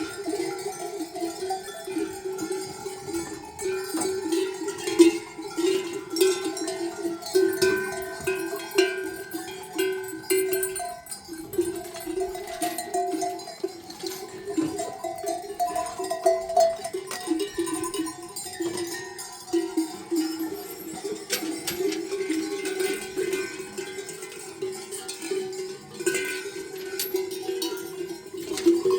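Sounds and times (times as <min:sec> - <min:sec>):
livestock bells clanking: 0:00.0 - 0:28.9.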